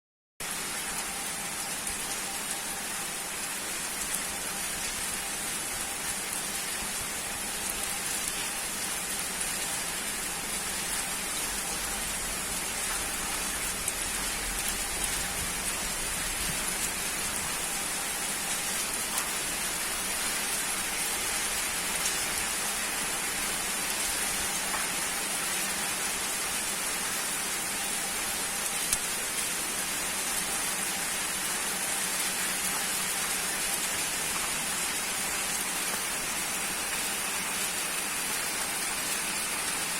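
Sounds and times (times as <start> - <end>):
steady rainfall: 0.4 - 39.9.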